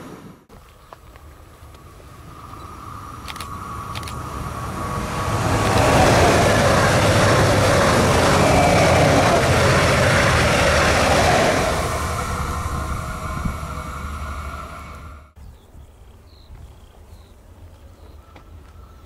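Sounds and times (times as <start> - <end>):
train rumble and wheel noise: 0.0 - 15.4.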